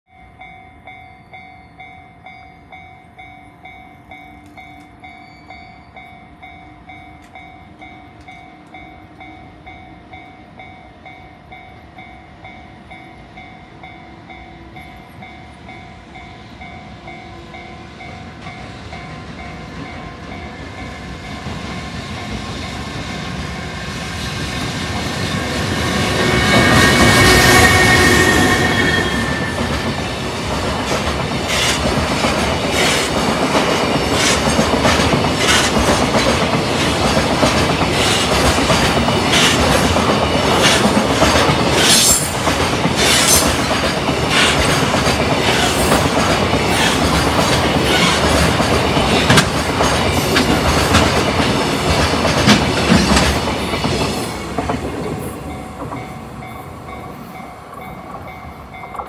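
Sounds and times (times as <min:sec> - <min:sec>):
freight train rolling past: 0:00.1 - 0:59.0.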